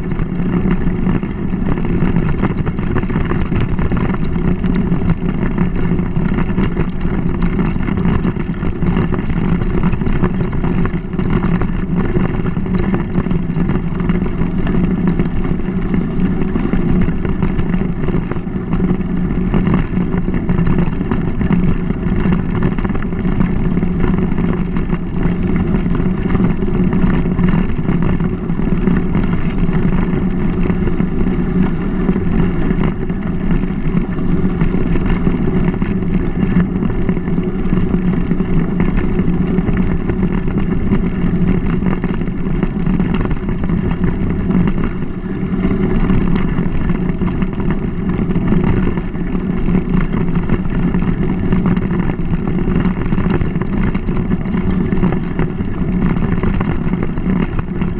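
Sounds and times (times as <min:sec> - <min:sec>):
bike tyre rumble on dirt: 0:00.0 - 0:57.9
wind on microphone: 0:00.0 - 0:57.9.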